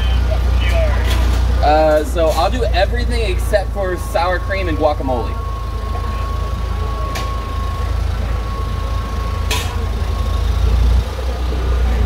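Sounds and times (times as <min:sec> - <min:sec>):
thin steady whine: 0:00.0 - 0:12.0
truck engine rumbling: 0:00.0 - 0:12.0.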